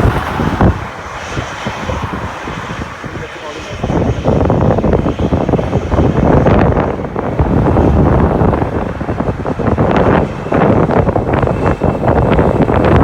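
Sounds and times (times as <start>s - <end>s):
jet airliner engine rumble: 0.0s - 13.0s
wind buffeting microphone: 0.0s - 13.0s.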